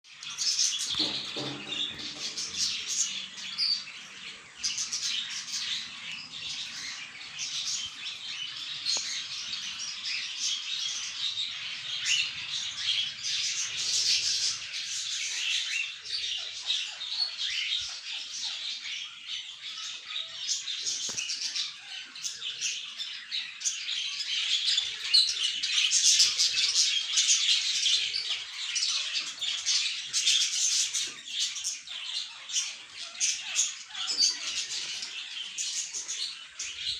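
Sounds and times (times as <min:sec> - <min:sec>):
birds chattering and chirping: 0:00.1 - 0:36.9.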